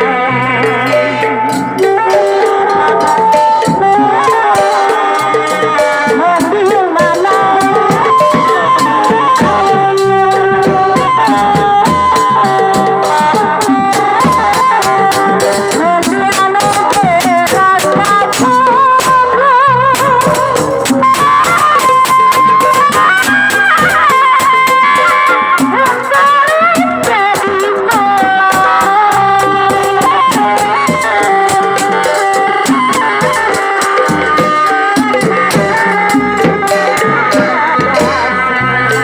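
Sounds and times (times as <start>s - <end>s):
rattling percussion: 0.0s - 39.0s
wavering melody with vibrato: 0.0s - 39.0s.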